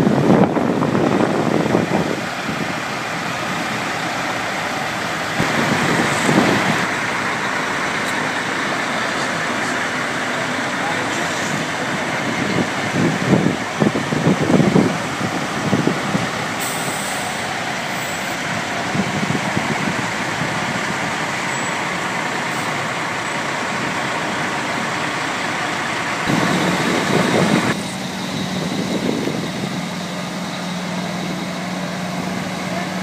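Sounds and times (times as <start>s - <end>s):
heavy diesel engines passing: 0.0s - 33.0s
low engine hum: 0.0s - 33.0s.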